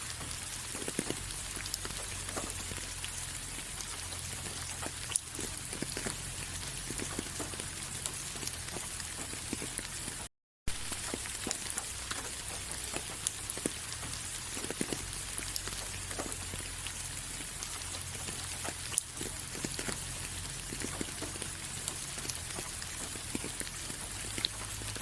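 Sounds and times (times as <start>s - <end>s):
raindrops ticking: 0.0s - 25.0s
steady rain hiss: 0.0s - 25.0s.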